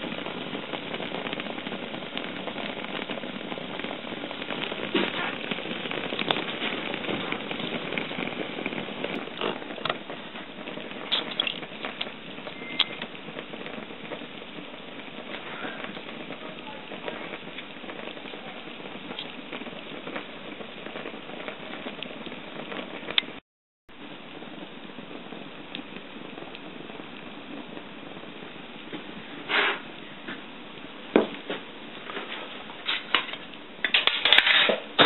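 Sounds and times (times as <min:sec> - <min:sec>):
water boiling with sizzling crackle: 0:00.0 - 0:35.0.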